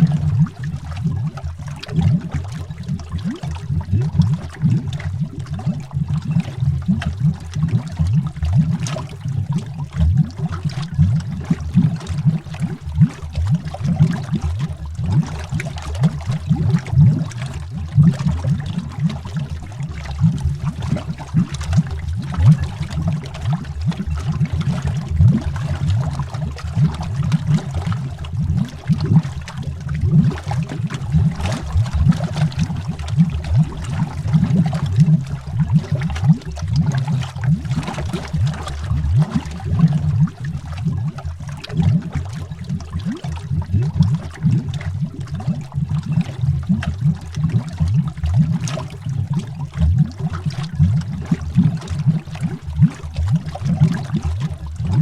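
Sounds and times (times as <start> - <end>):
underwater bubbling: 0.0 - 55.0.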